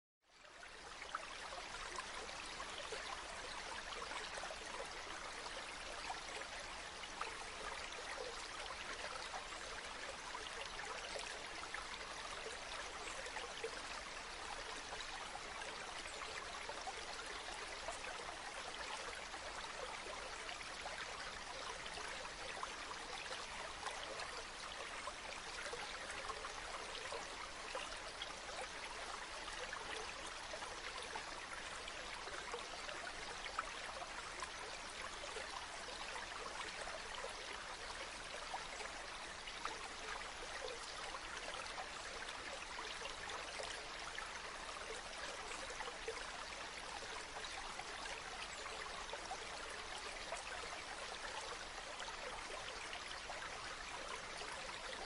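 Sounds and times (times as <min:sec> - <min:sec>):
river water babbling over stones: 0:00.4 - 0:55.0.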